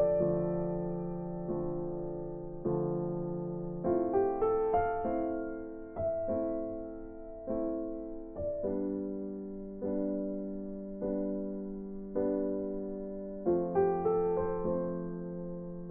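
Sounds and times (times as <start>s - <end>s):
slow electric piano chords: 0.0s - 15.9s.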